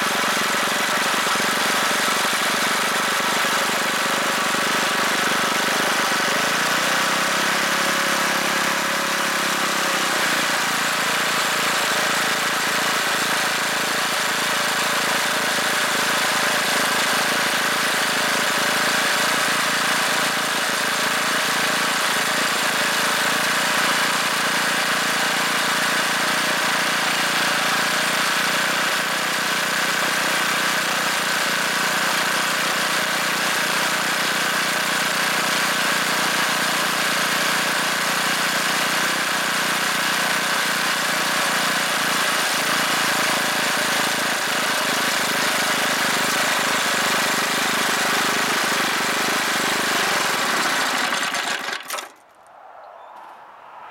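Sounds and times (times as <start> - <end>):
engine running: 0.0 - 52.4.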